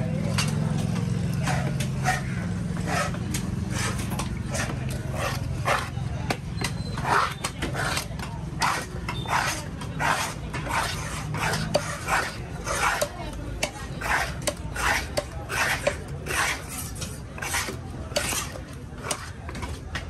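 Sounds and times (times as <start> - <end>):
knife scraping wooden chopping block: 0.1 - 20.0.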